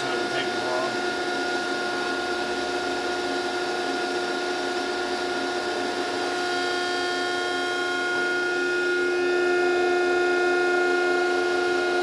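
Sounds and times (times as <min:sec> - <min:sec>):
hydraulic pump humming and whining: 0:00.0 - 0:12.0.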